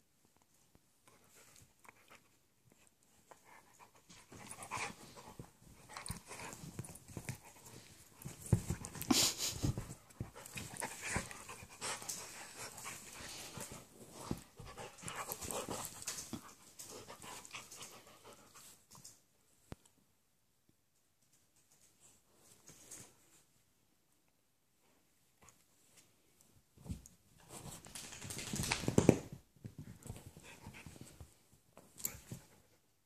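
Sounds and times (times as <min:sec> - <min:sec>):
dogs scuffling and mouthing: 0:00.2 - 0:19.9, 0:25.3 - 0:32.8.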